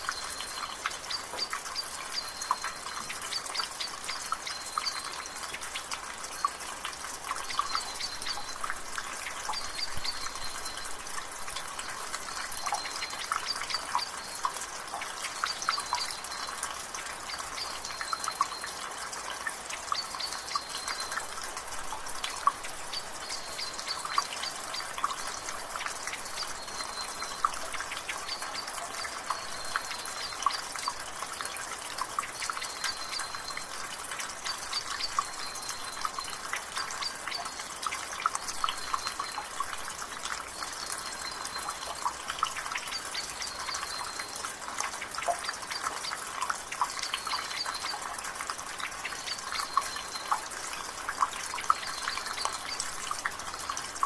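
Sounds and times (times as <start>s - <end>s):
soft rain hiss: 0.0s - 54.0s
water dripping from gutter: 0.0s - 54.0s.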